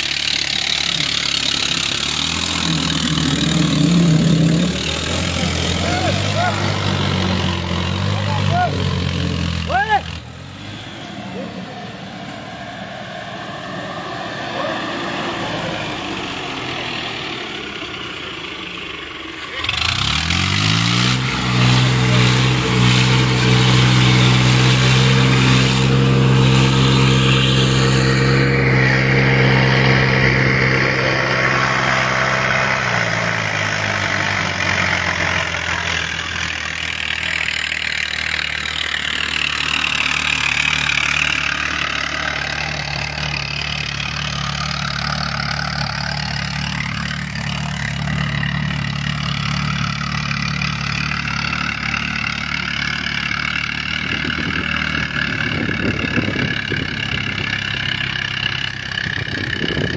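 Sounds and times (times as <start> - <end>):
tractor engines droning at high revs: 0.0 - 59.9.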